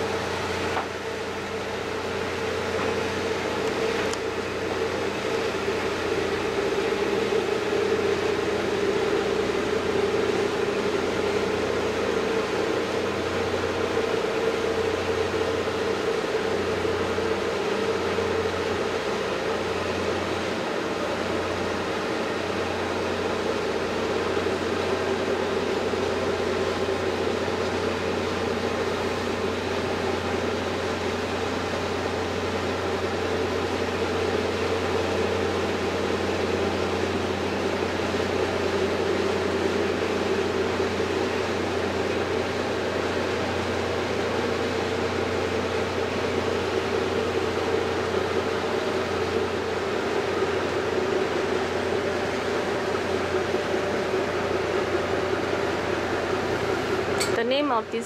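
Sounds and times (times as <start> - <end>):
ship engine droning: 0.0 - 58.0.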